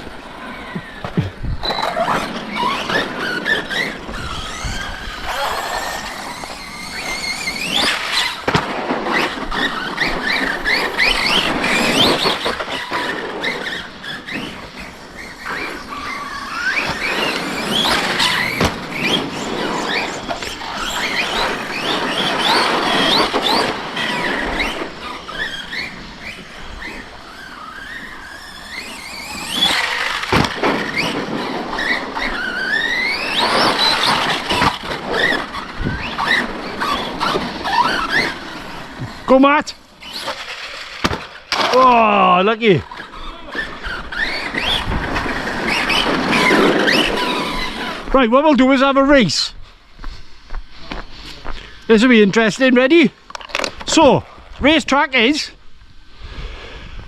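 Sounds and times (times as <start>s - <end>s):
electric toy truck motors whining: 0.0s - 8.5s, 9.1s - 48.1s.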